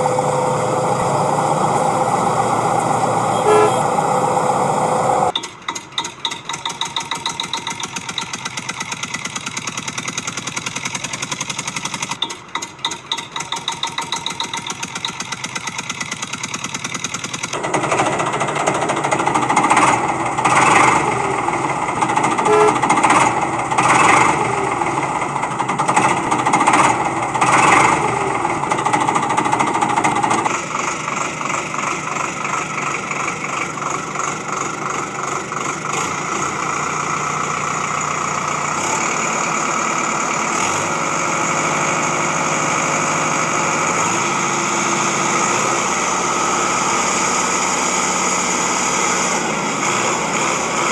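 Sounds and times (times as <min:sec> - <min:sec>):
diesel engine chugging: 0:00.0 - 0:50.9.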